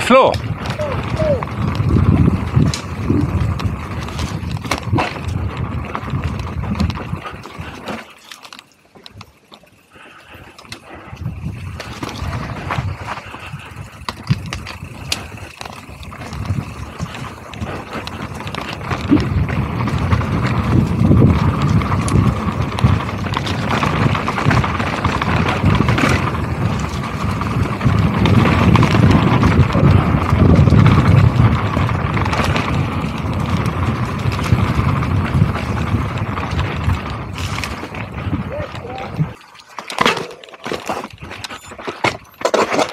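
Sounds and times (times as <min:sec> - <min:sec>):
bike rattling and clicking: 0:00.0 - 0:42.9
bike tyres rumbling on dirt trail: 0:00.0 - 0:42.9.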